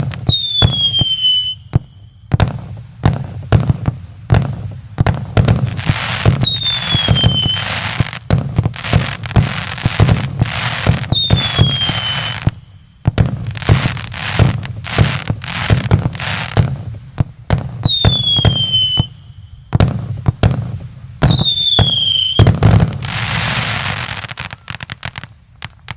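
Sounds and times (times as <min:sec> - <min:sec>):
falling fireworks whistles: 0:00.0 - 0:25.9
fireworks crackling: 0:00.0 - 0:25.9
fireworks launch thumps and bursts: 0:00.0 - 0:25.9.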